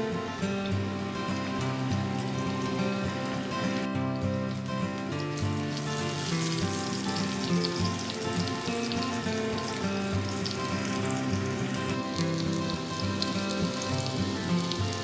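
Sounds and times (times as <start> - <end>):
background music: 0.0 - 15.0
cutlets sizzling in oil: 0.0 - 15.0.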